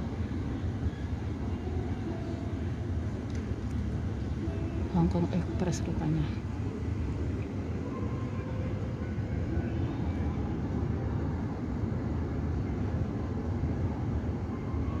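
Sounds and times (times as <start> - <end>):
jet engines taxiing: 0.0 - 15.0.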